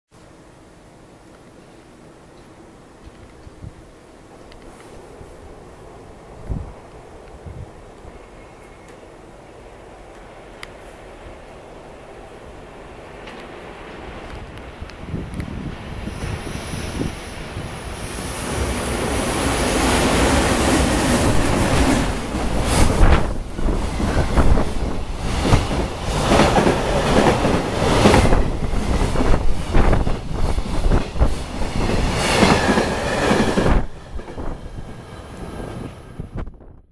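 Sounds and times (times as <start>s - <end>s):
train passing rumble: 1.5s - 36.8s.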